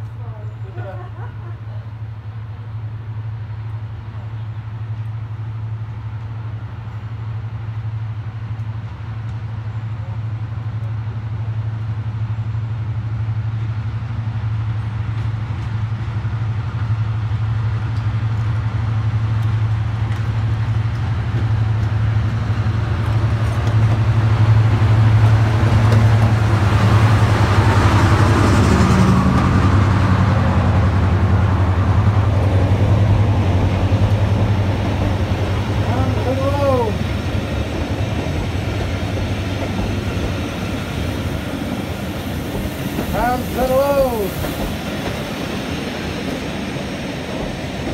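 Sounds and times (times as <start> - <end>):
diesel locomotive engine drone: 0.0 - 47.9
train coaches rolling on rails: 0.0 - 47.9.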